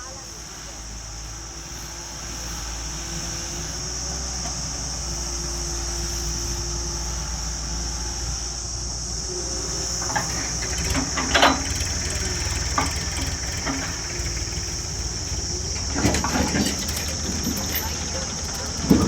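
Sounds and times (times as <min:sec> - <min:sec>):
heavy vehicle engine rumble: 0:00.0 - 0:19.0.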